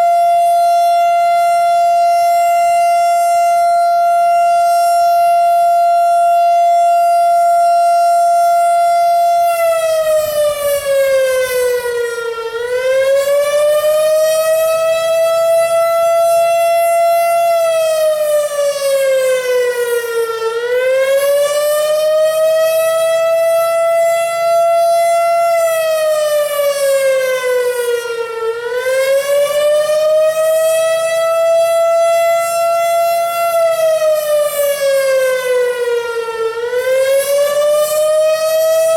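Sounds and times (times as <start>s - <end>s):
siren rising and falling: 0.0s - 38.9s
warning siren steady tone: 0.0s - 38.9s.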